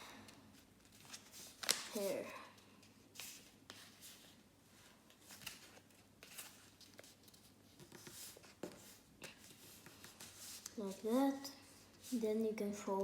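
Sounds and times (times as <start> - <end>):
paper rustling and crinkling: 0.5 - 11.1.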